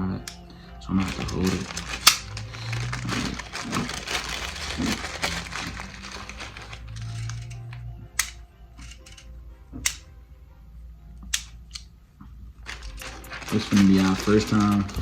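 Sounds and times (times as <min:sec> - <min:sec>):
bbs clicking into magazine: 0:00.2 - 0:10.0, 0:11.2 - 0:11.9, 0:12.6 - 0:15.0.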